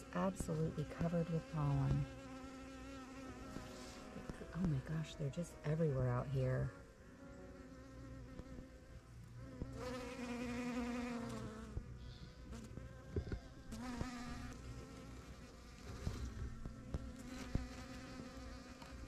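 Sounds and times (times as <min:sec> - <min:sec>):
bees buzzing past: 0:00.0 - 0:19.0.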